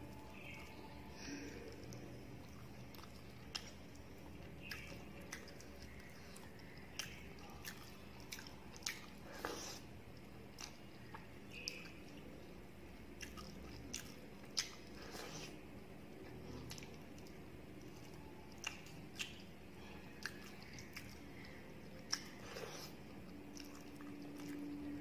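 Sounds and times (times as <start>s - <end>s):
person chewing and smacking: 0.1s - 25.0s.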